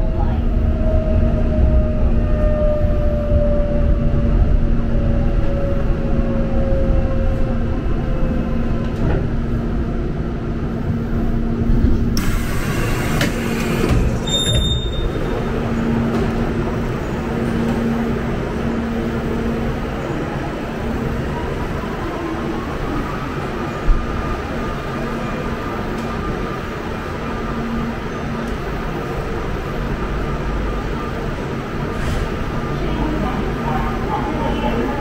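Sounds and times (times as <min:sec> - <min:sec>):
subway train rumbling: 0:00.0 - 0:35.0.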